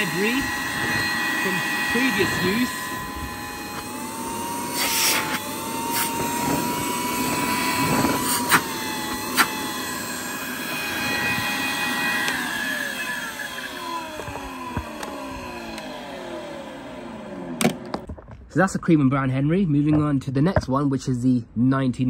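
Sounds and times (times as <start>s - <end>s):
vacuum cleaner motor whine: 0.0s - 18.1s.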